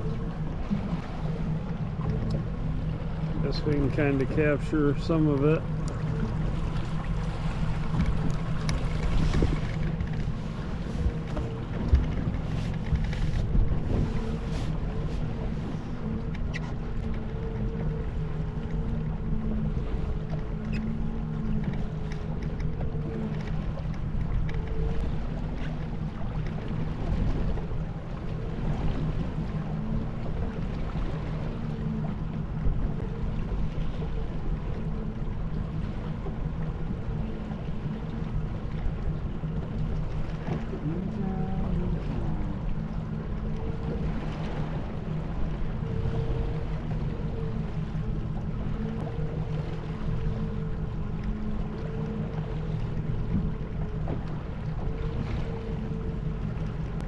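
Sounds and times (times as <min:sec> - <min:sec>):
boat engine humming: 0:00.0 - 0:57.0
water noise: 0:00.0 - 0:57.0
wind: 0:00.0 - 0:57.0.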